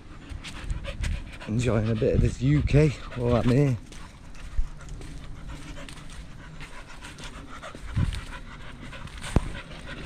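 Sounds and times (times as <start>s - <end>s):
dog panting: 0.0s - 10.0s.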